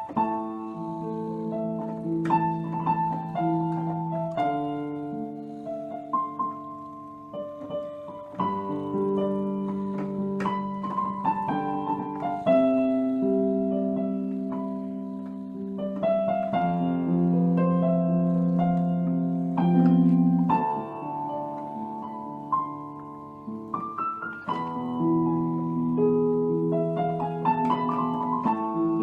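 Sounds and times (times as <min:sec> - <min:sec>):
soft piano chords: 0:00.0 - 0:29.0.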